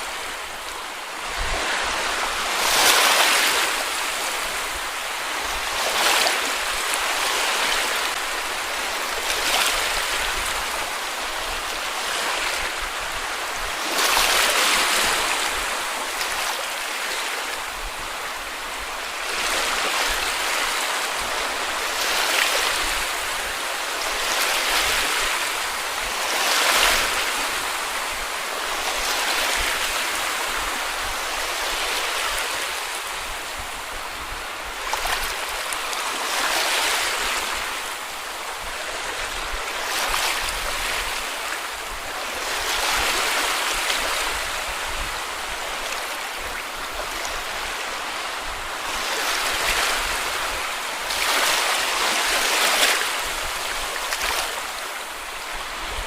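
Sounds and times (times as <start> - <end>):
small waves washing up beach: 0.0 - 56.0.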